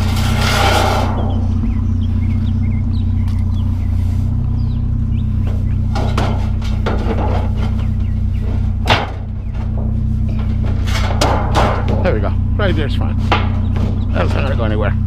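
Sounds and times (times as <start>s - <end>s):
metal clattering: 0.0s - 15.0s
scrap scraping rush: 0.0s - 15.0s
vehicle engine idling: 0.0s - 15.0s.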